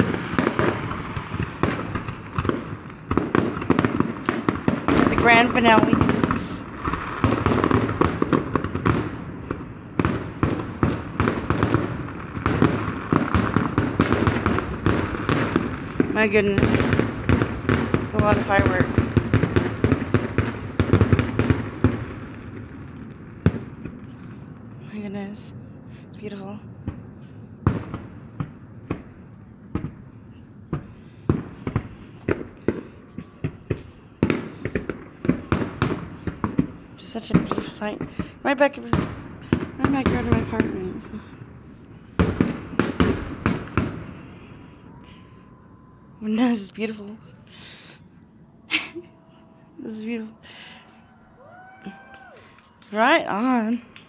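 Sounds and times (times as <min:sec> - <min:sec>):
fireworks bursting: 0:00.0 - 0:25.4, 0:26.2 - 0:45.3.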